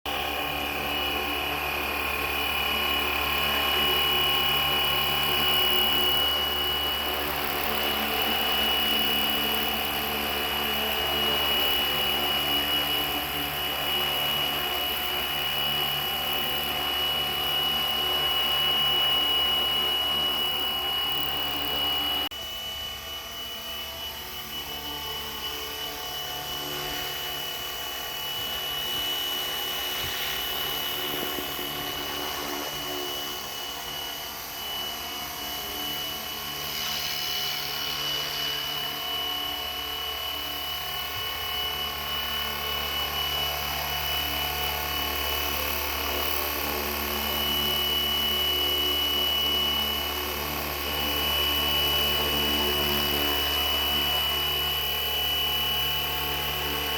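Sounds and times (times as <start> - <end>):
rc helicopter motor and rotors whining: 0.0 - 56.9.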